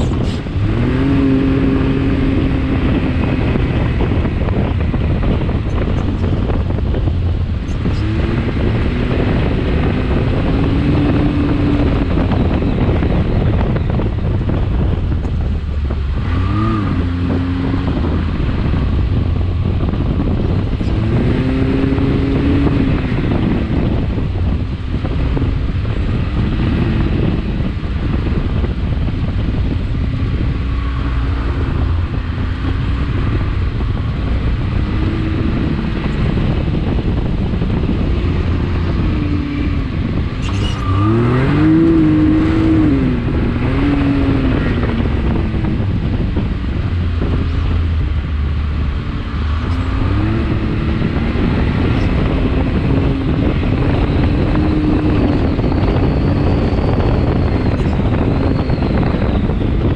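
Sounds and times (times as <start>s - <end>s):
dense low rumble: 0.0s - 59.9s
engine running under load: 0.0s - 59.9s.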